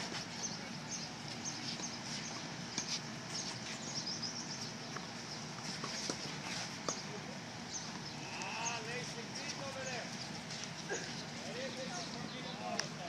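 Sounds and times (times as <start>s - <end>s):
small birds chirping: 0.0s - 13.0s
steady background noise: 0.0s - 13.0s.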